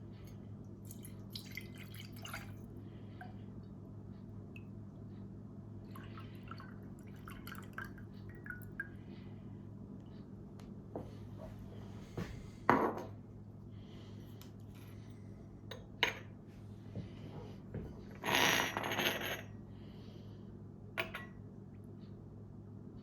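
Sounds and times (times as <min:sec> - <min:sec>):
steady low hum: 0:00.0 - 0:18.3, 0:19.0 - 0:23.0.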